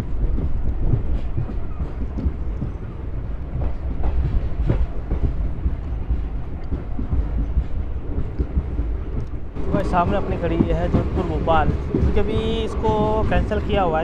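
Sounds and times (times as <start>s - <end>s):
train rumble: 0.0s - 14.0s
wheels clacking over rails: 0.0s - 14.0s.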